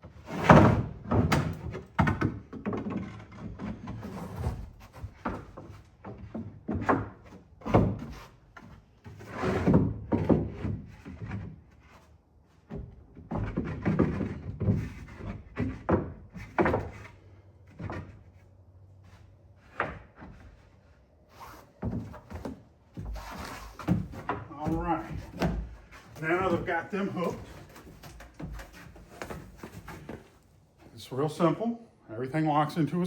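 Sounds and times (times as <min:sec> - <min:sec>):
panels knocking and scraping: 0:00.0 - 0:18.4, 0:21.7 - 0:30.9.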